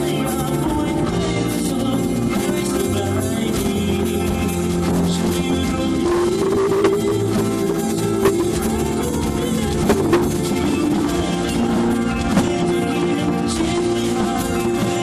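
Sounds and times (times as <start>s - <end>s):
drum kit with cymbal hits: 0.0s - 15.0s
held guitar chords: 0.0s - 15.0s
rock band playing live: 0.0s - 15.0s.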